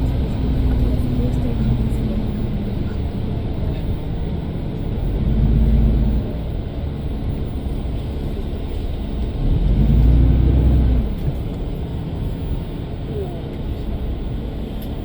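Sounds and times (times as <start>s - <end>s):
traffic low rumble: 0.0s - 15.0s
vehicles passing by: 0.0s - 15.0s.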